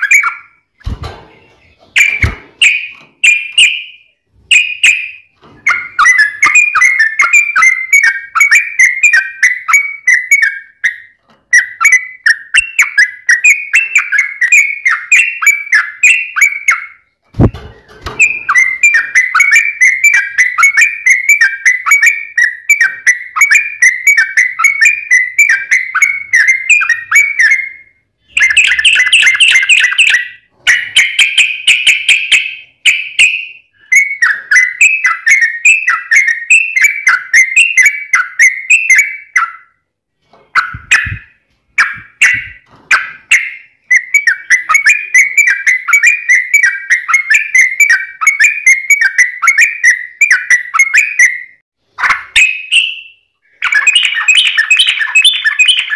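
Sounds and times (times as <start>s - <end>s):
bird singing whistled notes: 0.0s - 0.6s, 1.4s - 39.8s, 40.6s - 51.6s, 52.2s - 55.9s.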